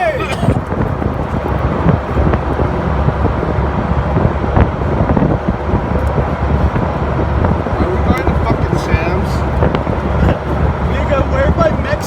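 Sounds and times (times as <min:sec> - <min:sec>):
road and engine noise: 0:00.0 - 0:12.0
wind buffeting microphone: 0:00.0 - 0:12.0.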